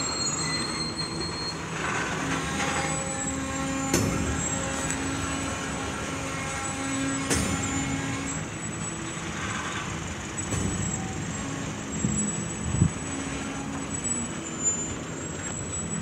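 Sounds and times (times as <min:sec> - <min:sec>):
freight train braking: 0:00.0 - 0:16.0
steady high brake whine: 0:00.0 - 0:16.0.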